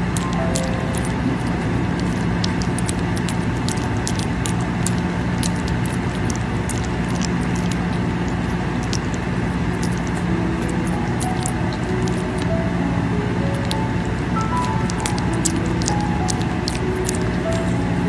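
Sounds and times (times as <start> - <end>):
puppy lapping food: 0.0 - 18.0
steady low hum: 0.0 - 18.0.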